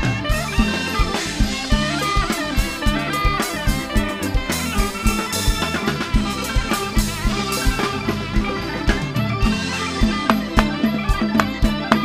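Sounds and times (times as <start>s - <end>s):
band playing melody: 0.0s - 12.0s
steady drum beat: 0.0s - 12.0s.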